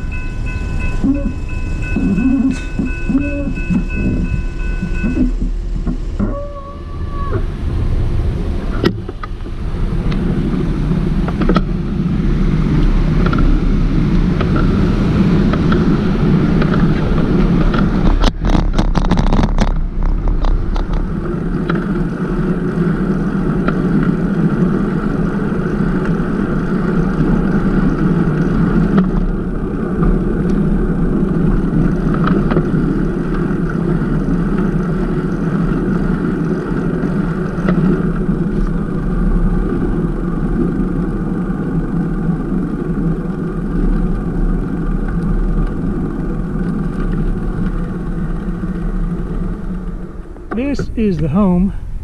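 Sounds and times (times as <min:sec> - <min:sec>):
bicycle road noise: 0:00.0 - 0:52.0
wind rushing on microphone: 0:00.0 - 0:52.0.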